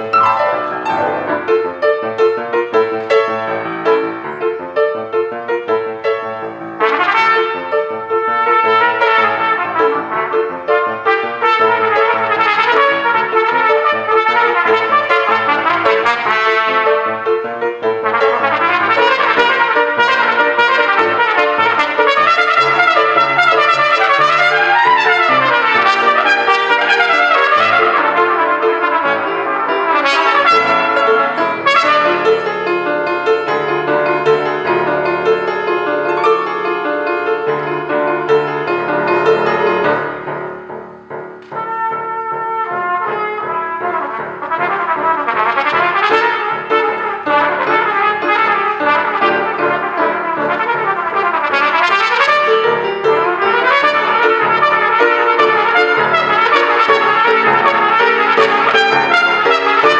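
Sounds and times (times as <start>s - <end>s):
cornet playing fast solo: 0.0s - 40.6s, 41.4s - 59.9s.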